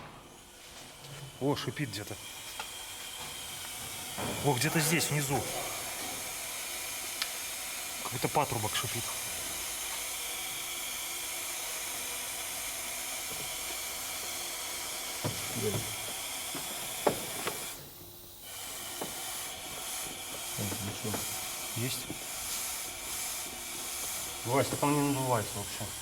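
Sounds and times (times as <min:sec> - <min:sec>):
compressed air hissing from hose: 0:00.2 - 0:26.0.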